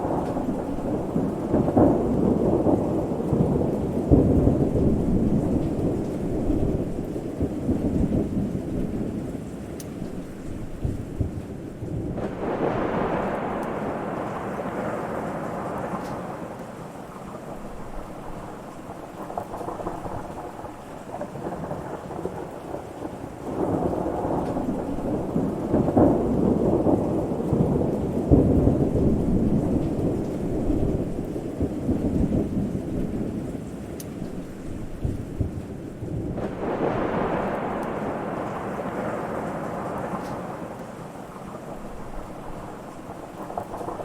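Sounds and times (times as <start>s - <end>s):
steady rain: 0.0s - 44.0s
thunder rumbling: 0.0s - 44.0s.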